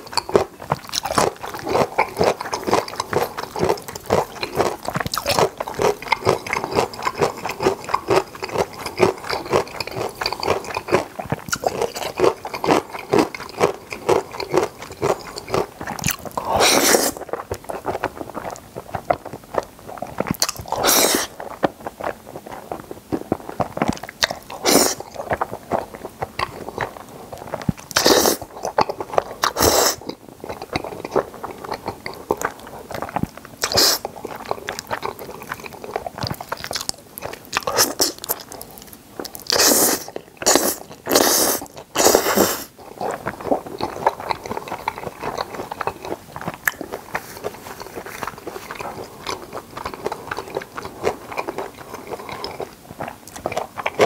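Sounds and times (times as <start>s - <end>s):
noodles slurping: 0.0s - 54.0s
wet chewing and mouth smacks: 0.0s - 54.0s.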